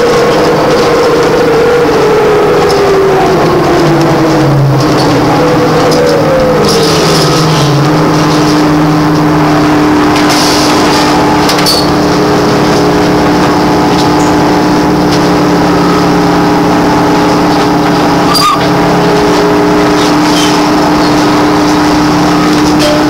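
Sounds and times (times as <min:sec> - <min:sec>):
electric drive humming: 0:00.0 - 0:23.0
road and cabin noise: 0:00.0 - 0:23.0.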